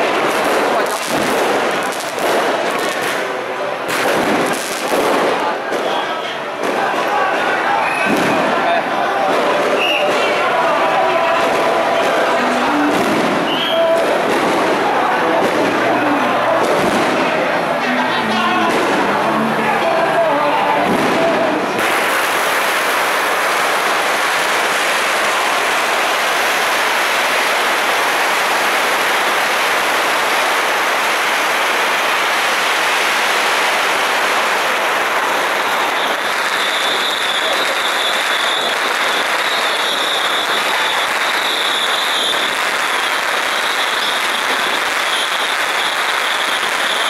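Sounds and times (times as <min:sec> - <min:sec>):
firecrackers crackling: 0:00.0 - 0:47.0.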